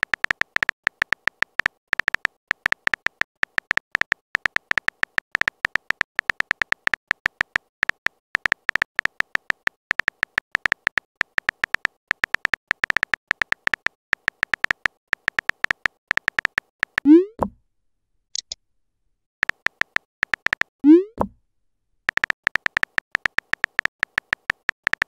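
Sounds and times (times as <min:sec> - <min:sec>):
phone keyboard taps: 0:00.0 - 0:17.0, 0:19.4 - 0:20.7, 0:22.1 - 0:25.0.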